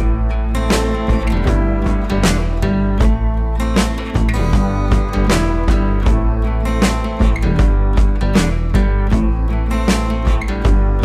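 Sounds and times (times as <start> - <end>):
instrumental music with strummed guitar: 0.0 - 11.0.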